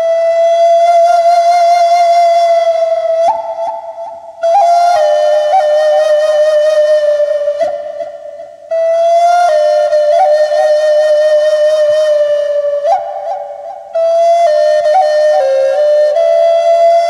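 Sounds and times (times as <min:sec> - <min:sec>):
flute playing slow melody: 0:00.0 - 0:17.0.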